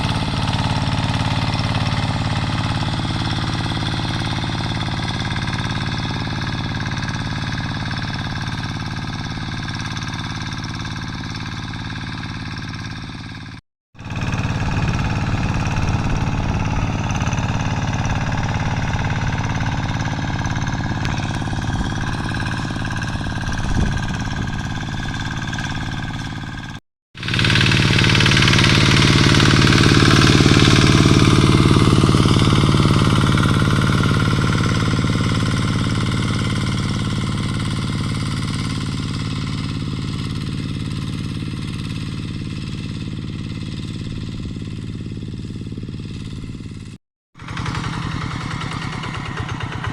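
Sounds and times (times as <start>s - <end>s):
diesel tractor engine knocking: 0.0s - 49.9s.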